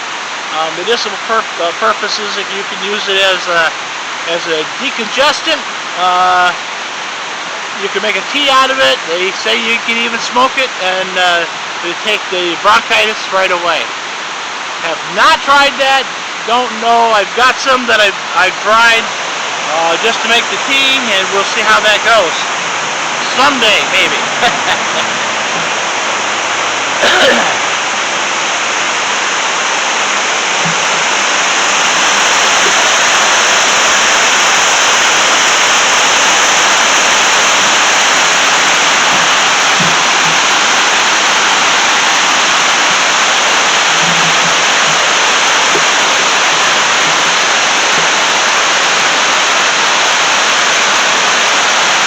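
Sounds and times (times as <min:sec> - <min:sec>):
water rushing over a dam: 0:00.0 - 0:52.0.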